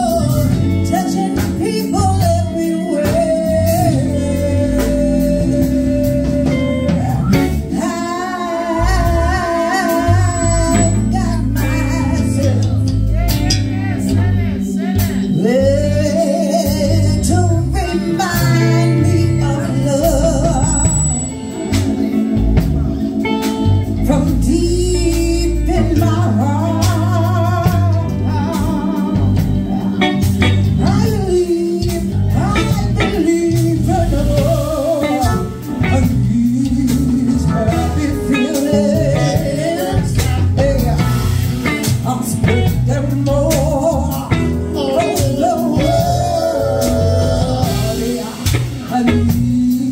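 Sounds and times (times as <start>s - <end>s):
bass line: 0.0s - 49.9s
guitar: 0.0s - 49.9s
person singing with vibrato: 0.0s - 49.9s.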